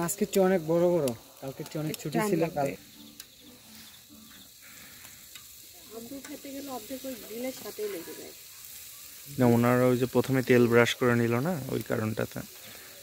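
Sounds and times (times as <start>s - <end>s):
chicken sizzling on charcoal grill: 0.0s - 13.0s.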